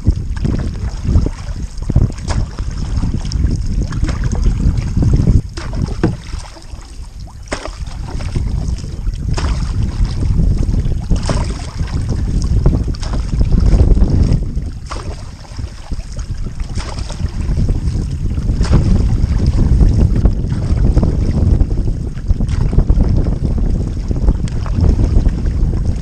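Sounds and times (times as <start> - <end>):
water splashing against canoe: 0.0 - 26.0
wind buffeting microphone: 0.0 - 26.0.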